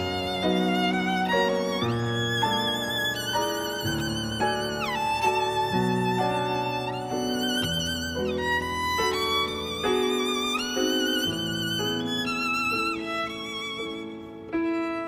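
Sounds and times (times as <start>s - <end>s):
violin playing slow melody: 0.0s - 15.0s.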